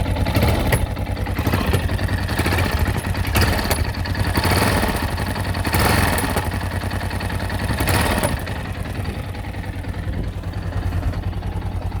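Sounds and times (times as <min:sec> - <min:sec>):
motorcycle engine idling with knocking: 0:00.0 - 0:12.0.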